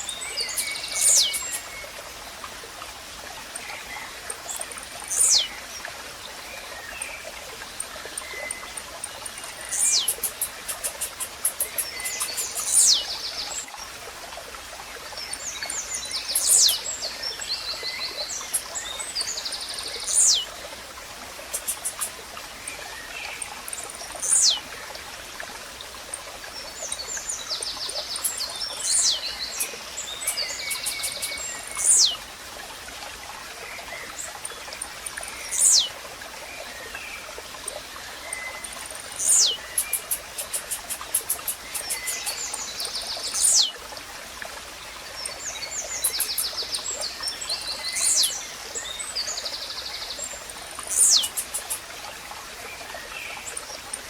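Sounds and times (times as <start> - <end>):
small birds chirping and trilling: 0.0 - 2.5, 3.4 - 13.8, 15.1 - 24.8, 26.5 - 32.3, 33.7 - 43.8, 45.1 - 51.9
running water trickling: 0.0 - 54.0.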